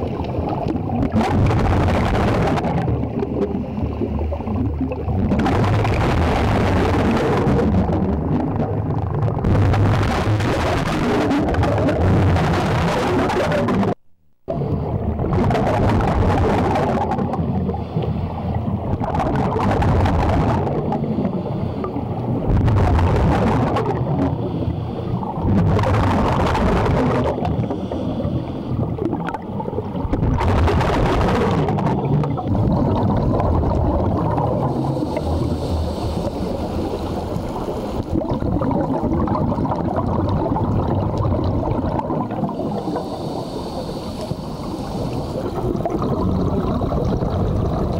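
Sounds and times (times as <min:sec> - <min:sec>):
exhaled bubbles gurgling underwater: 0:00.0 - 0:47.9
low underwater rumble: 0:00.0 - 0:47.9.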